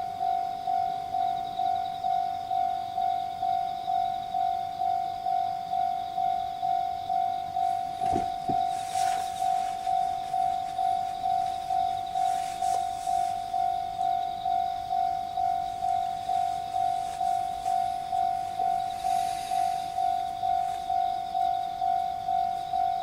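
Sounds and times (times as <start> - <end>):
level crossing warning bell ringing: 0.0 - 23.0.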